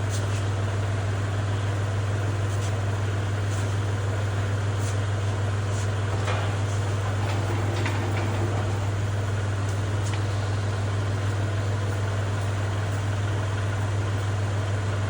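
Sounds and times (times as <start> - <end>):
tractor diesel engine idling: 0.6 - 15.0.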